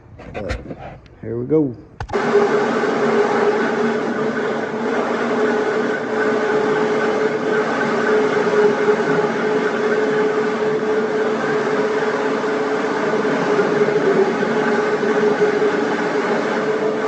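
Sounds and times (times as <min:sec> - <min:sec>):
electric floor grinder running: 0:02.1 - 0:17.0.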